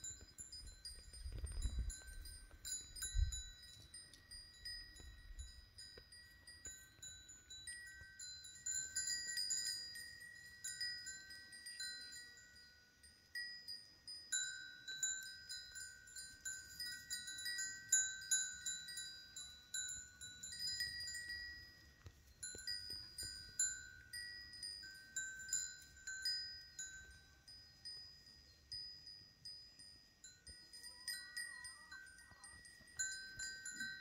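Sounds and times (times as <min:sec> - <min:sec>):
metal chimes ringing: 0:00.0 - 0:34.0.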